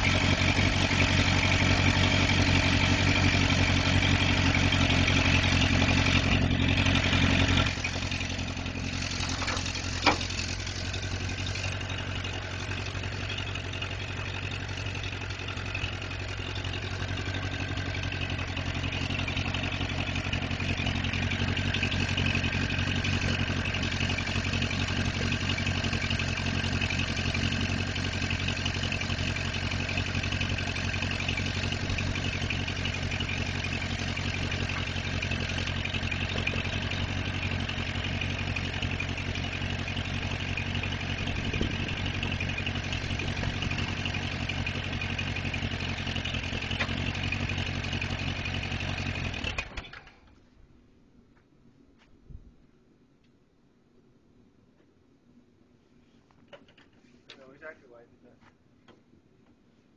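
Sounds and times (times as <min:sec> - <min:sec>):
tractor engine idling: 0:00.0 - 0:50.6.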